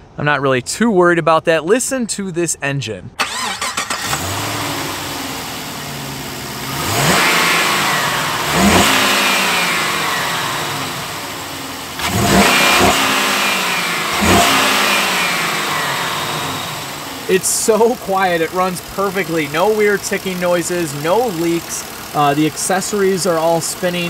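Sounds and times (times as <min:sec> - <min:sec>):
car engine idling and revving: 0:03.2 - 0:24.0.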